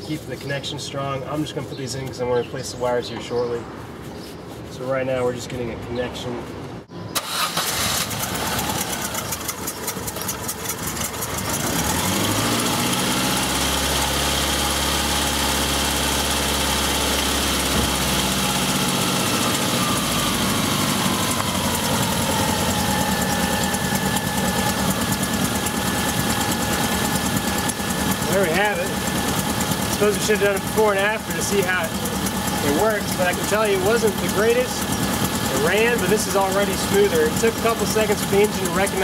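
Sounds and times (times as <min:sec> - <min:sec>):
car engine idling: 0:07.2 - 0:39.0.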